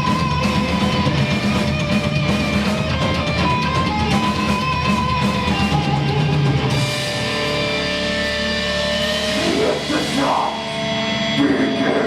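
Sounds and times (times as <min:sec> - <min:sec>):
drum kit: 0:00.0 - 0:12.0
heavy rock guitar: 0:00.0 - 0:12.0.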